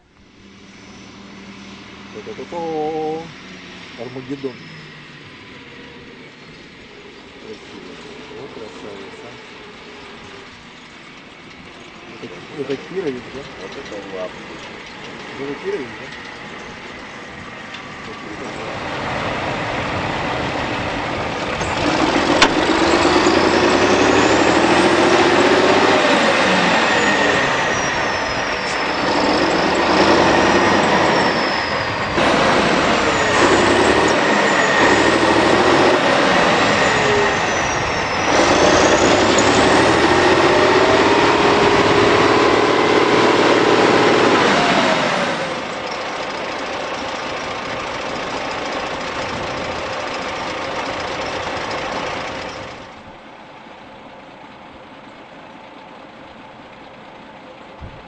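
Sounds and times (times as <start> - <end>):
tractor diesel engine revving: 0.0 - 53.3
high engine whine: 0.0 - 58.0.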